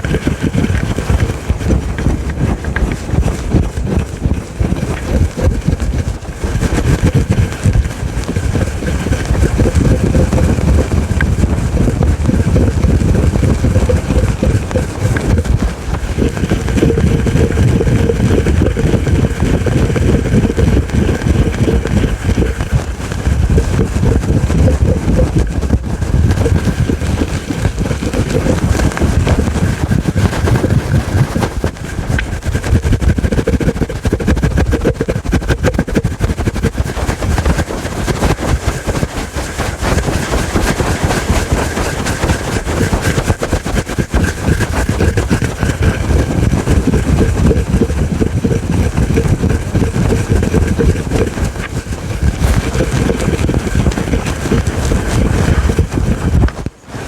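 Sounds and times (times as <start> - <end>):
scratching on furry microphone cover: 0.0 - 57.0.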